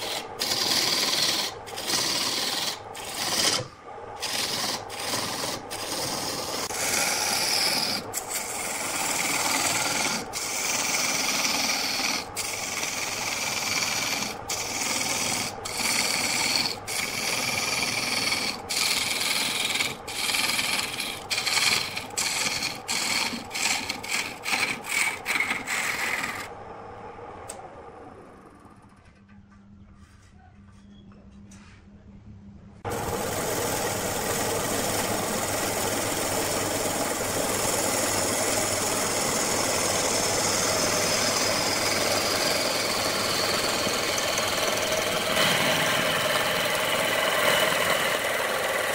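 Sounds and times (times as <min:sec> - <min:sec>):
lathe running: 0:00.0 - 0:26.5, 0:32.9 - 0:48.9
lathe tool rasping wood: 0:00.0 - 0:26.5, 0:32.9 - 0:48.9.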